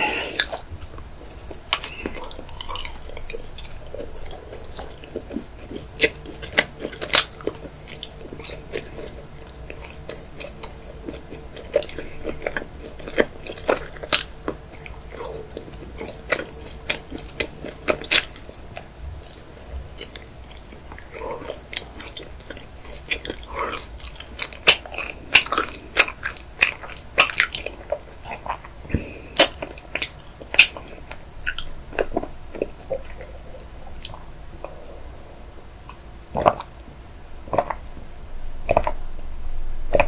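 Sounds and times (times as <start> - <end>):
chewing chocolate with crunches: 0.0 - 35.1, 35.8 - 36.8, 37.4 - 37.9, 38.6 - 39.0.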